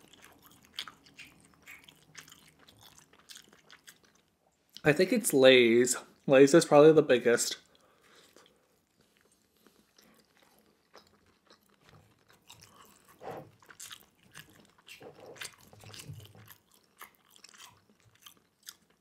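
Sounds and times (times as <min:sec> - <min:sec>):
person chewing wetly: 0:00.0 - 0:04.9, 0:07.6 - 0:19.0.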